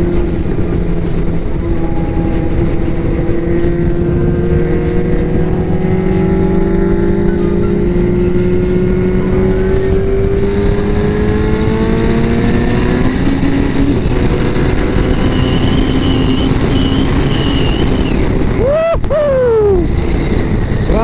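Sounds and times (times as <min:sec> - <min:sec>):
motorcycle engine accelerating: 0:00.0 - 0:21.0
wind rush on microphone: 0:00.0 - 0:21.0.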